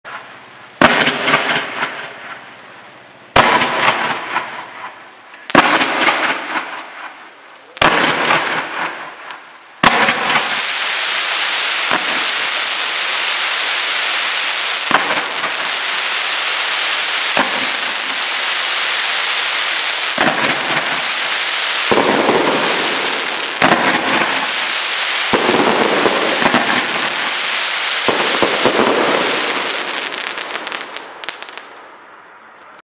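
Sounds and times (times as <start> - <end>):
fireworks crackling: 0.0 - 32.8
firework bangs: 0.1 - 31.9
firework shots: 0.1 - 31.9.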